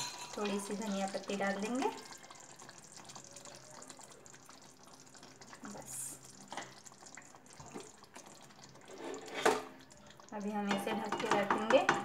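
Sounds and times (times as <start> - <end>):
faint sizzle of gravy in pan: 0.0 - 12.0.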